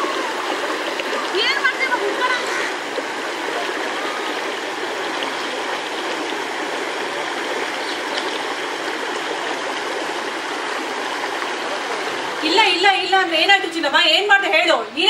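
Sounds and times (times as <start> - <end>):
river rushing over rocks: 0.0 - 13.8.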